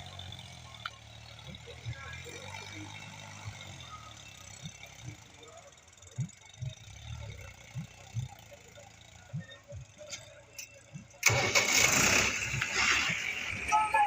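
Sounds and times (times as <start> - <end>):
tractor diesel engine starting: 0.0 - 14.0.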